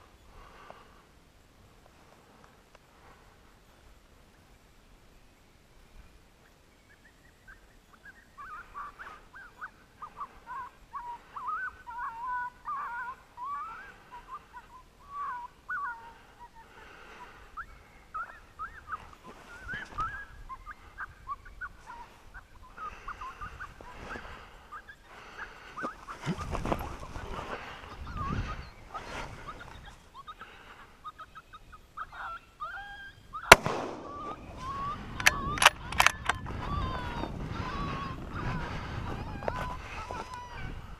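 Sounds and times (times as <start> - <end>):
coyotes yipping and howling: 5.9 - 40.9.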